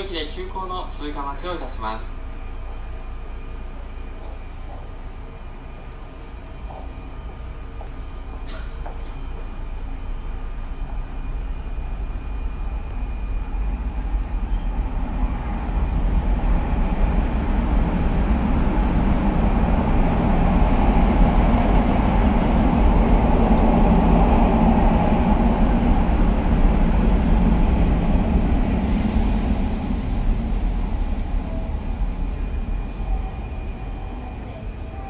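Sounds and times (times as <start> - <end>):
passing train rumble: 0.0 - 35.0.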